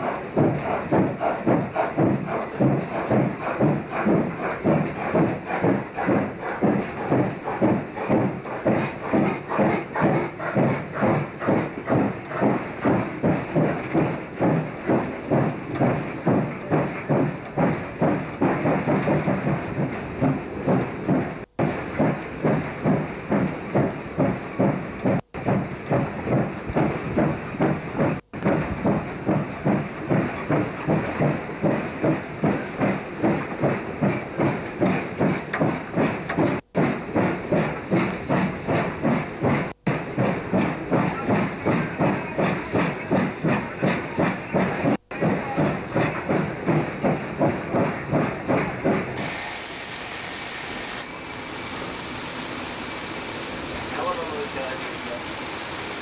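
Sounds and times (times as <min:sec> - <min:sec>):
steam hiss: 0:00.0 - 0:56.0
steam locomotive exhaust chuffing: 0:00.0 - 0:56.0.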